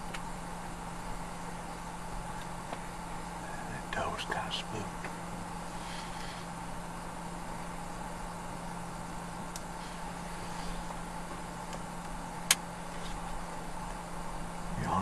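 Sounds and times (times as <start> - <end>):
background hiss: 0.0 - 15.0
low hum: 0.0 - 15.0.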